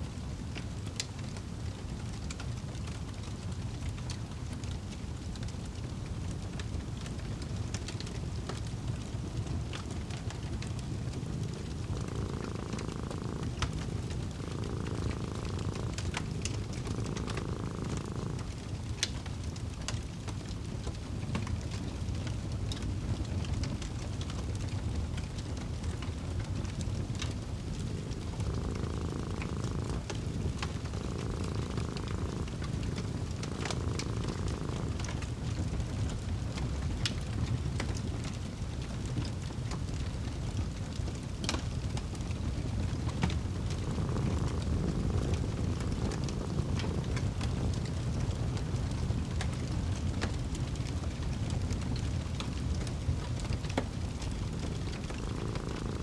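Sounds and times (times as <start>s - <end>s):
cat purring: 0.0s - 56.0s
wood fire crackling and popping: 0.1s - 56.0s.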